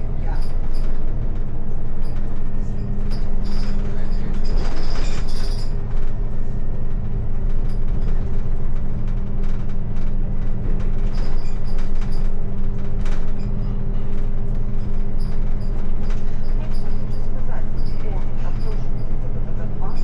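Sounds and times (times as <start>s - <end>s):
vehicle engine drone from inside: 0.0s - 20.0s.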